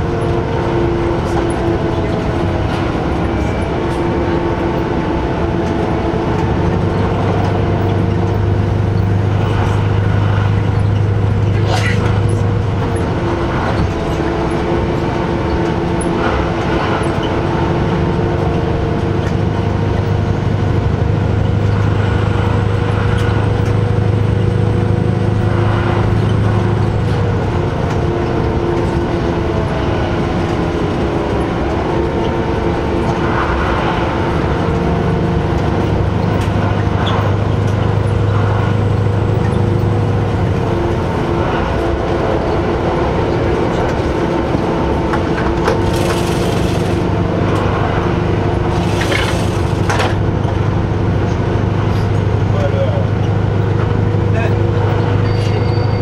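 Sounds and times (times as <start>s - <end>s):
diesel railcar engine drone: 0.0s - 56.0s.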